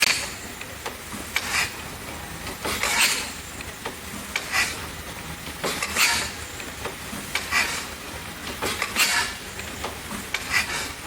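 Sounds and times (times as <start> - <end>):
steam engine hissing: 0.0 - 11.0.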